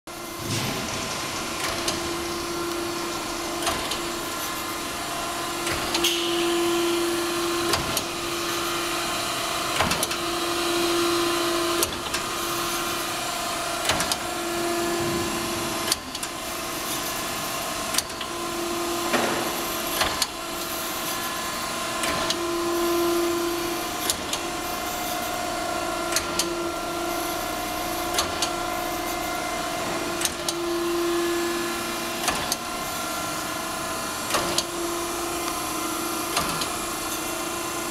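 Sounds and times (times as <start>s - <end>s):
grinding machine humming: 0.1s - 37.9s
low machine tone: 0.1s - 37.9s.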